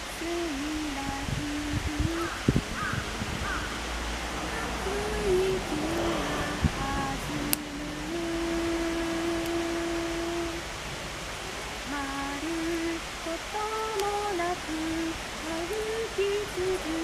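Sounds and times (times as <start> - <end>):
person humming a melody: 0.0 - 3.4, 4.5 - 10.7, 11.8 - 17.0
campfire crackles: 0.0 - 17.0
steady hiss: 0.0 - 17.0.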